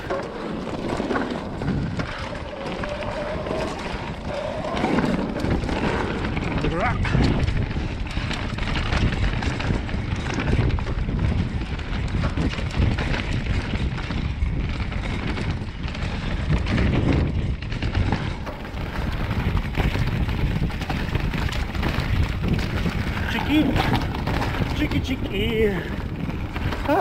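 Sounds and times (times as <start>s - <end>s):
bike tyres and frame rattling: 0.0s - 27.0s
wind buffeting microphone: 0.0s - 27.0s.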